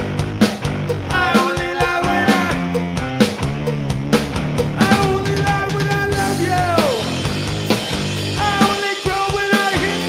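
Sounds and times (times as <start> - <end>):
drum kit: 0.0 - 10.0
electric bass: 0.0 - 10.0.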